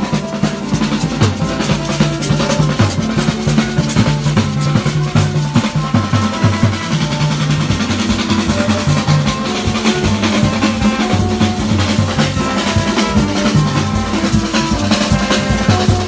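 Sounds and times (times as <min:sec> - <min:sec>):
hand drums beating: 0:00.0 - 0:16.0
horns holding notes: 0:00.0 - 0:16.0.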